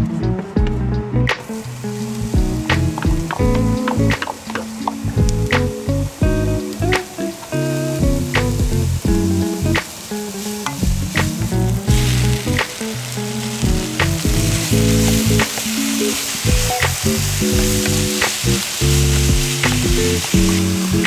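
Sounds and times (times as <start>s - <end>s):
instrumental background music: 0.0s - 21.0s
food sizzling in a pan: 1.4s - 21.0s.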